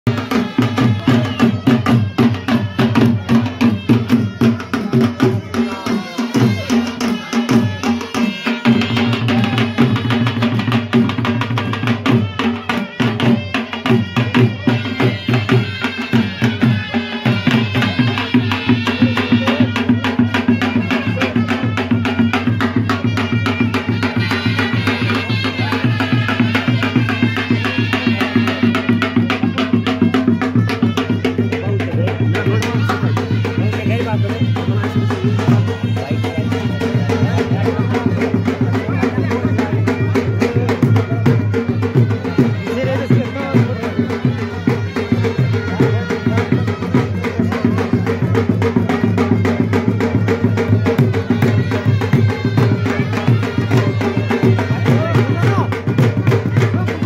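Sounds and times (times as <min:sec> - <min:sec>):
barrel drums beaten fast: 0:00.1 - 0:57.0.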